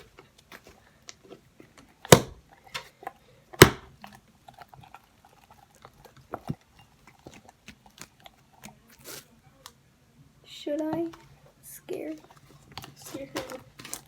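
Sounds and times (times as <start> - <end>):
slime squelching: 0.0 - 9.9, 10.7 - 14.0.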